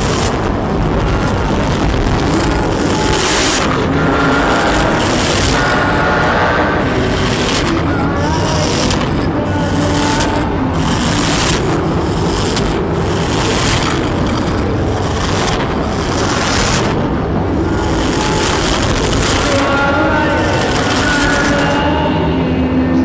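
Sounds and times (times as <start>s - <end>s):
distorted noise music: 0.0s - 23.0s.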